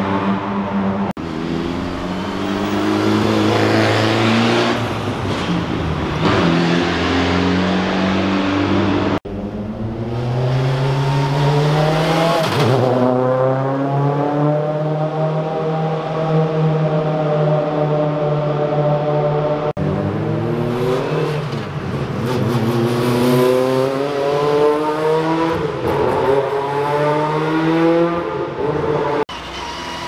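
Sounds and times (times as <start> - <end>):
rally car engines echoing in tunnel: 0.0 - 30.0.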